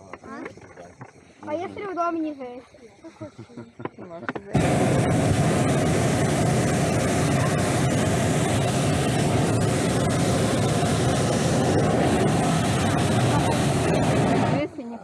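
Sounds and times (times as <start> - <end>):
propane burner blast: 0.0 - 15.0.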